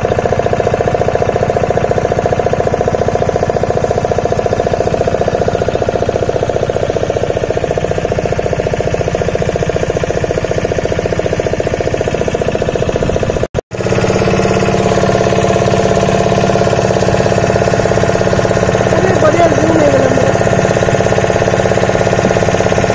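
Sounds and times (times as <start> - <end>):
motorboat engine running: 0.0 - 22.9.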